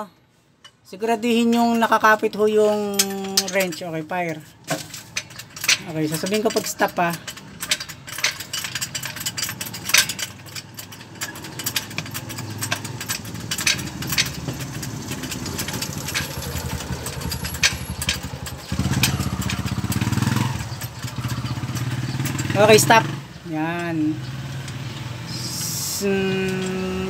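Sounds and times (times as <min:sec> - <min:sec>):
metallic clicks of tools: 0:02.6 - 0:27.0
vehicle engine idling: 0:04.0 - 0:27.0.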